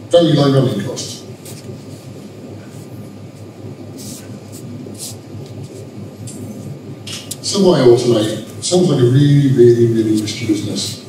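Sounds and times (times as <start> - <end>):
low rumble of hall: 0.0 - 11.0.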